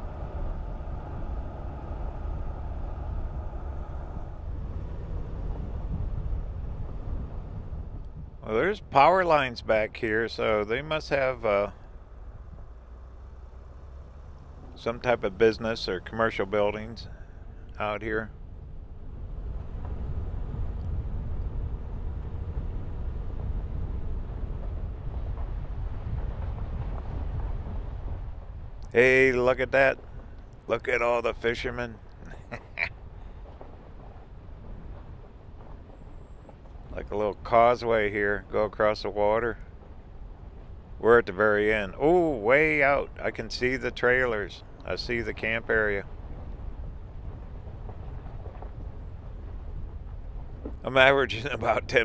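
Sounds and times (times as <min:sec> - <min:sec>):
van driving on rough road: 0:00.0 - 0:52.0.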